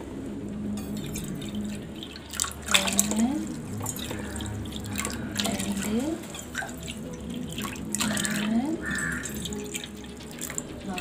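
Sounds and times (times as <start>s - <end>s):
water pouring into metal cup: 0.7s - 11.0s
water splashing into pan: 0.8s - 11.0s.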